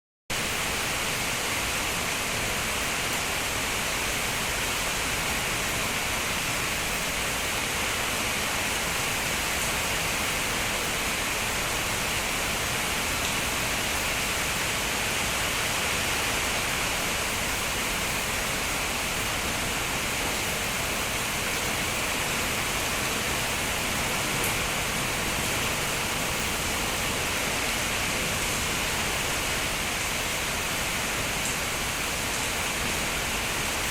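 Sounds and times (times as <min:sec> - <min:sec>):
steady rain hiss: 0:00.3 - 0:33.9.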